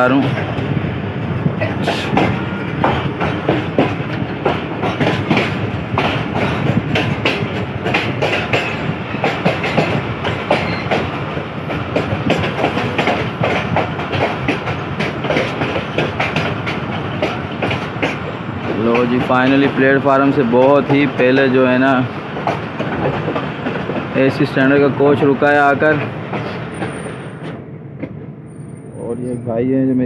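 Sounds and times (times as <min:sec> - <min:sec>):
train wheels clattering on rails: 0:00.0 - 0:30.0.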